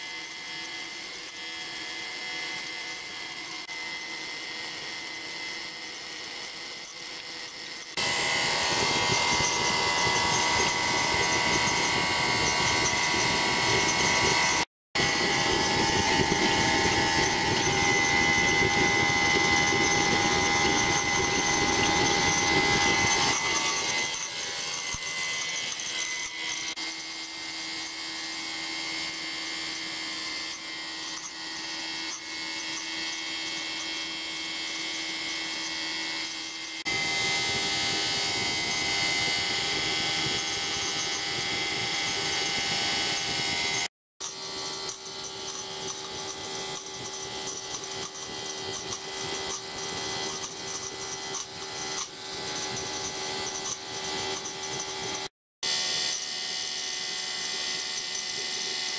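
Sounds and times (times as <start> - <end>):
electric blower whirring: 2.2 - 56.9.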